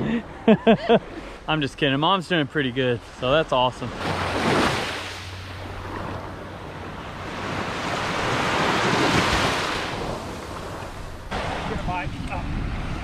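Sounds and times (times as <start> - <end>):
surf waves breaking on a beach: 0.0 - 13.0.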